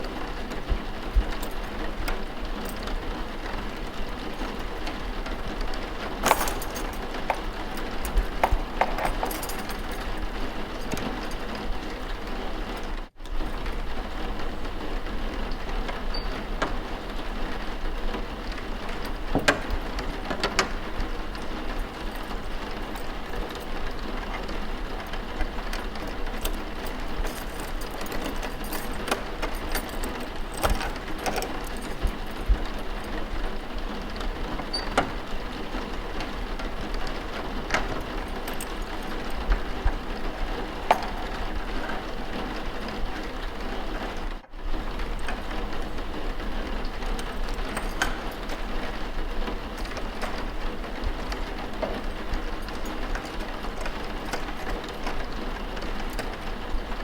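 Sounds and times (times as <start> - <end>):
steady rain: 0.0 - 6.3, 9.9 - 57.0.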